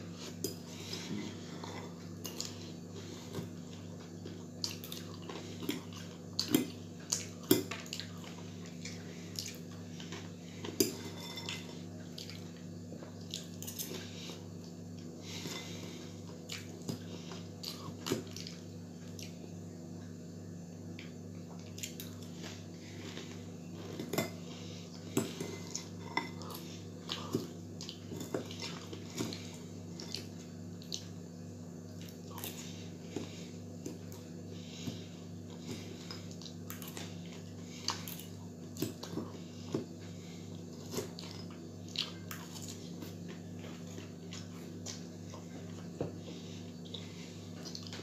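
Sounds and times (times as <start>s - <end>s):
steady low hum: 0.0s - 48.0s
chewing: 0.2s - 19.4s, 21.0s - 31.2s, 32.0s - 48.0s.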